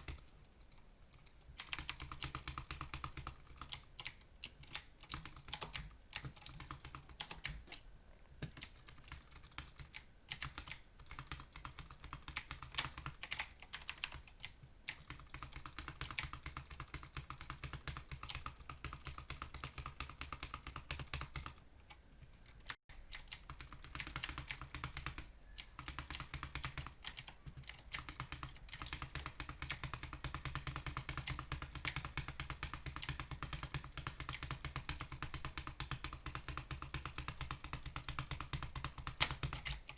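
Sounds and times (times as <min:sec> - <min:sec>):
rapid irregular clicking: 0:00.0 - 0:07.8, 0:08.4 - 0:39.9.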